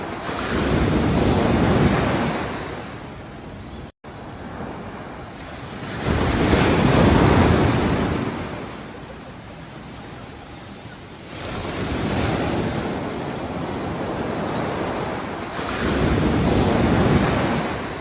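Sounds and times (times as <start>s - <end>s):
ocean waves washing ashore: 0.0s - 18.0s.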